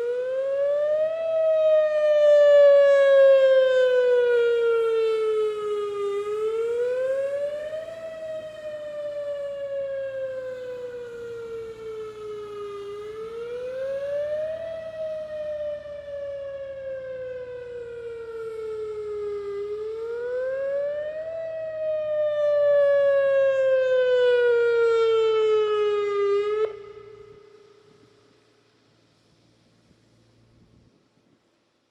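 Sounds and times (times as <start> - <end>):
warning siren wailing: 0.0 - 28.3.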